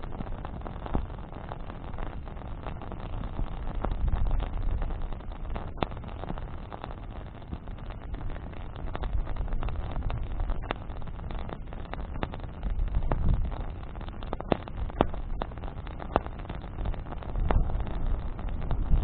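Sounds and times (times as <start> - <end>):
wind on microphone: 0.0 - 6.7, 7.4 - 19.0
campfire crackling and popping: 0.0 - 19.0
flames rumbling: 0.0 - 19.0.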